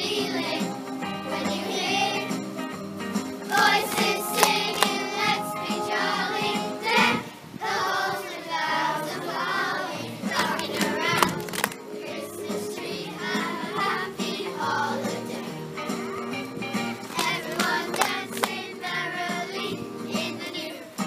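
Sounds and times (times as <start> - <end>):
musical accompaniment: 0.0 - 7.4, 10.1 - 20.5
children singing in unison: 0.0 - 16.4, 17.0 - 21.0.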